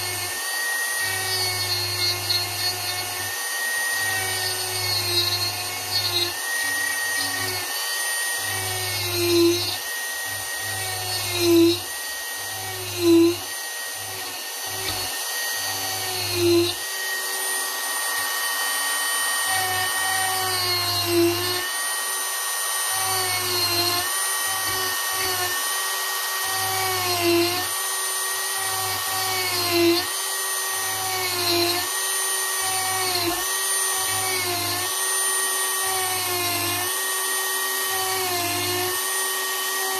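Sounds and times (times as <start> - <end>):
rotary tool whining carving wood: 0.0 - 39.9.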